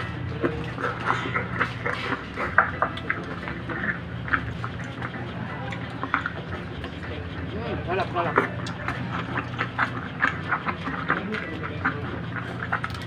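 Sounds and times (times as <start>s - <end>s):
chewing and lip-smacking: 0.0s - 13.0s
steady low hum: 0.0s - 13.0s.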